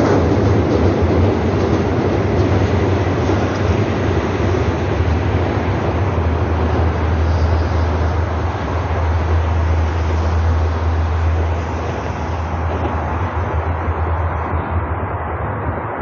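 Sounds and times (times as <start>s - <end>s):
low outdoor rumble: 0.0s - 16.0s
train rumbling over a bridge: 0.0s - 16.0s.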